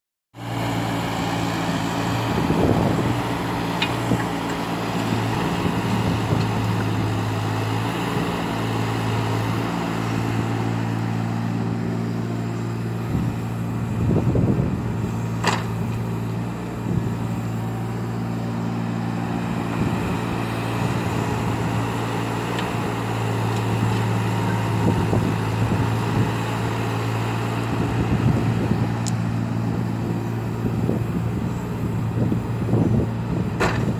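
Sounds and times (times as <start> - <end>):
excavator diesel engine running: 0.4 - 33.9.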